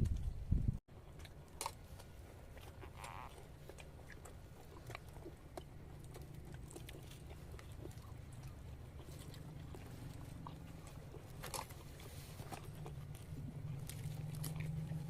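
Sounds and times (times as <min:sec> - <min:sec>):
people chewing: 0:00.9 - 0:15.0
small eating clicks: 0:01.0 - 0:15.0.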